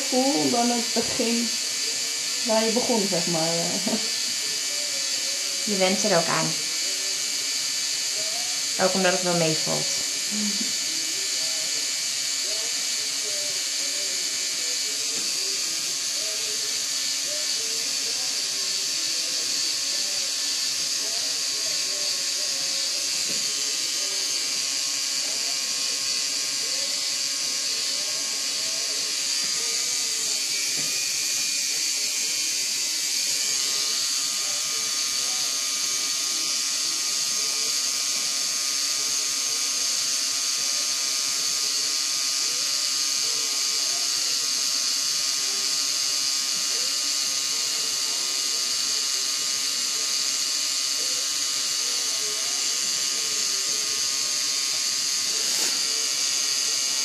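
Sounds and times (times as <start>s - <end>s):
high-pitched electric buzz: 0.0s - 57.0s.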